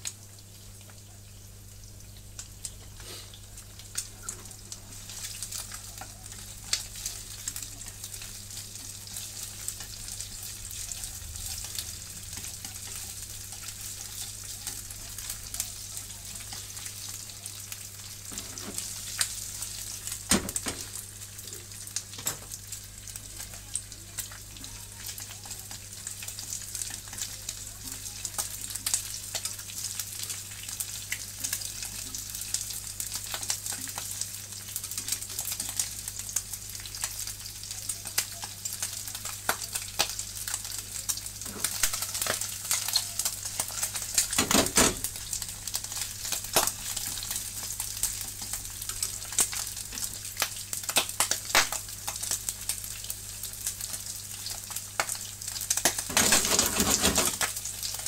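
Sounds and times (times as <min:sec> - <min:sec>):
chicken skin sizzling in a pan: 0:00.0 - 0:58.0.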